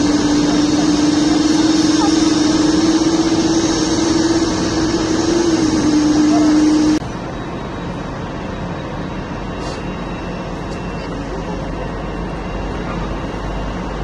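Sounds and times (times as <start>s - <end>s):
outdoor noise: 0.0s - 14.0s
steady machine hum: 0.0s - 14.0s.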